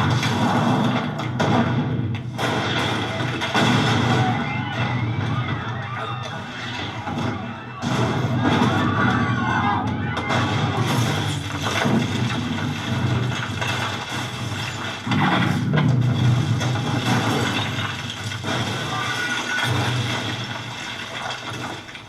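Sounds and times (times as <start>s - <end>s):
film sound effects: 0.0s - 22.0s.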